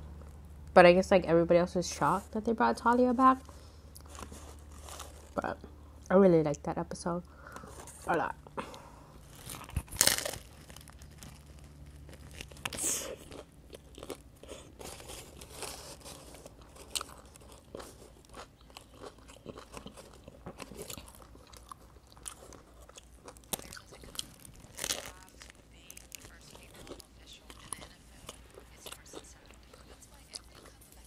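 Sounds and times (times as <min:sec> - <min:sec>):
crusty bread crunching when chewed: 0:03.4 - 0:05.8, 0:07.4 - 0:31.0.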